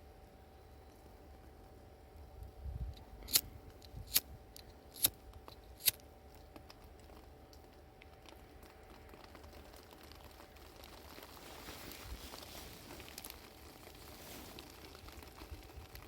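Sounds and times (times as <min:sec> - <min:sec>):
low steady background: 0:00.0 - 0:16.0.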